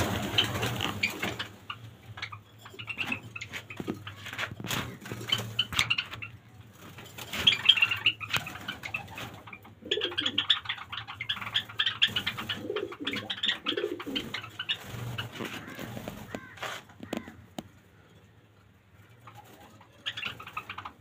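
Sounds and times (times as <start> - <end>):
flock of sparrows chirping: 0.0 - 21.0.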